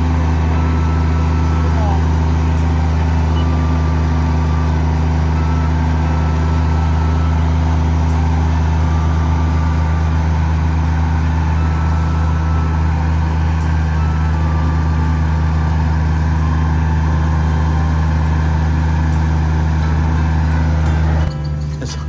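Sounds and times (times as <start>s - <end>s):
combine harvester running: 0.0s - 22.0s.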